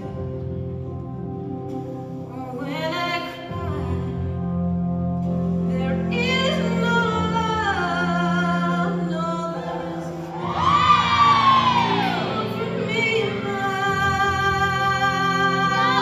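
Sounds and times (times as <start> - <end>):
held low accompaniment: 0.0 - 16.0.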